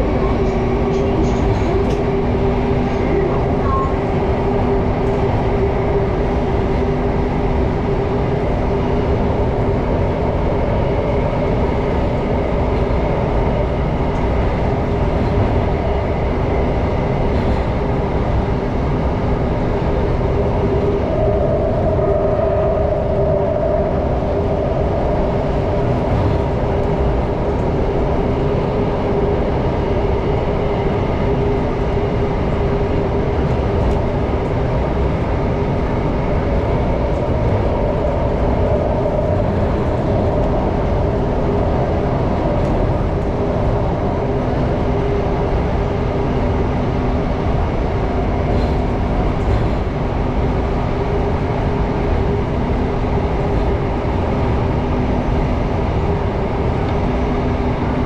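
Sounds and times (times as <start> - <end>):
train motor hum: 0.0 - 58.0
train wheels rumbling on rails: 0.0 - 58.0.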